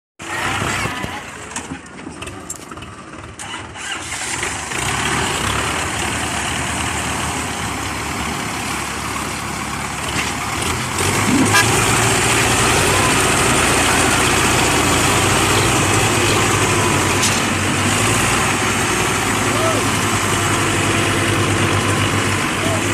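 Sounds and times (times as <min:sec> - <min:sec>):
tractor diesel engine under load: 0:00.2 - 0:22.9.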